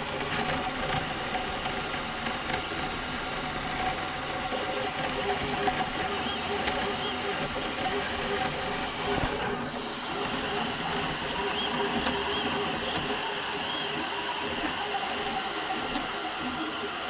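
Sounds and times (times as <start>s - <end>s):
small electric motors running: 0.0s - 17.0s.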